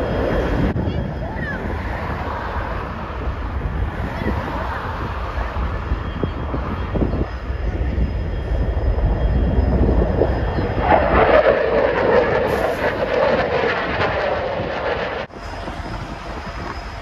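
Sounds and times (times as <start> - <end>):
fighter jet flying overhead: 0.0 - 17.0.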